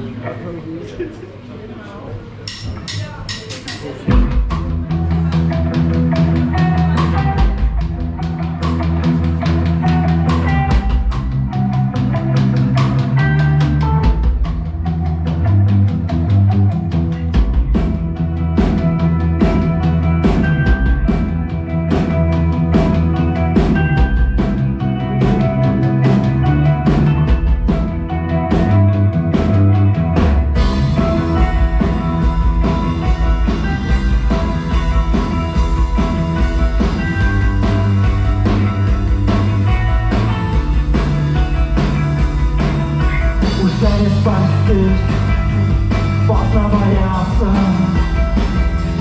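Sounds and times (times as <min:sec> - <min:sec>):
drum kit beat: 0:02.4 - 0:49.0
low bass line: 0:04.1 - 0:49.0.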